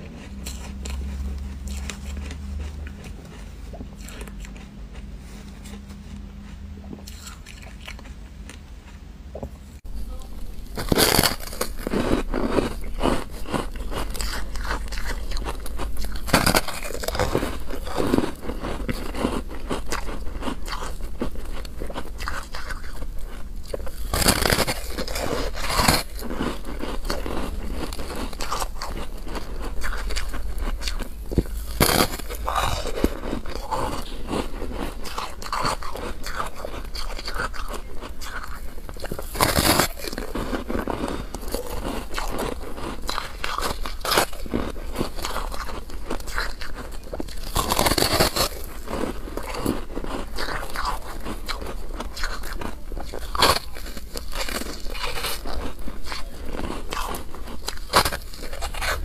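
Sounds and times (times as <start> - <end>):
crackly chewing: 0.0 - 59.0
crunching bites of frozen foam: 10.1 - 59.0.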